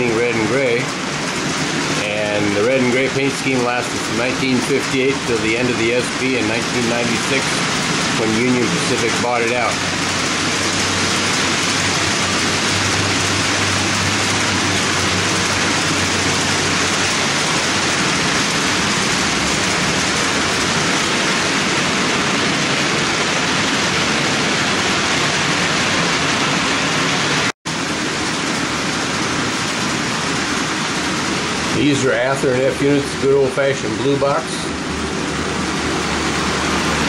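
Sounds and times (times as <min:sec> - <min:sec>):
model train rolling on track: 0:00.0 - 0:25.4, 0:27.8 - 0:37.0.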